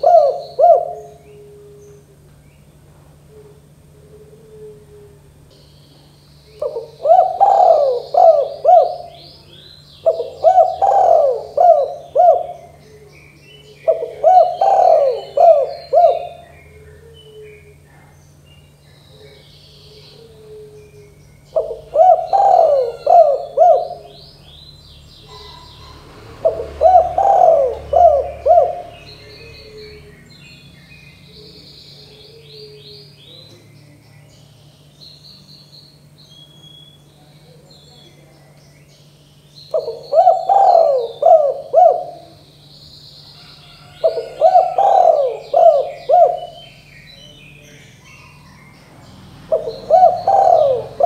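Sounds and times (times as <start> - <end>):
small birds chirping: 0.0 - 4.2, 5.0 - 51.0
dove cooing: 0.0 - 5.6, 6.5 - 18.1, 18.7 - 30.3, 31.2 - 34.0, 39.7 - 42.6, 43.3 - 48.8, 49.4 - 51.0.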